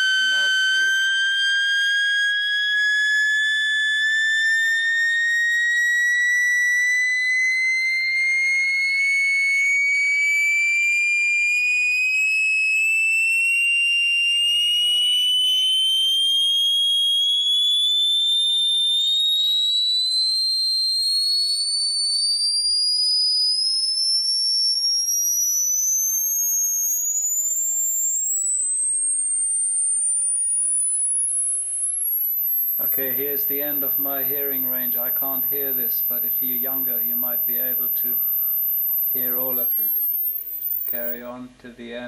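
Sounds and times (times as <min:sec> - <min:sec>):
sine tone sweeping upward: 0:00.0 - 0:41.3.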